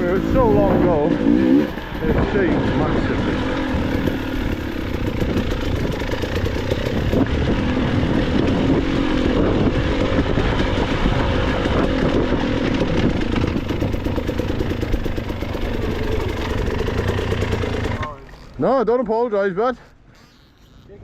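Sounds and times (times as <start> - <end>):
dirt bike engine revving: 0.0 - 18.6.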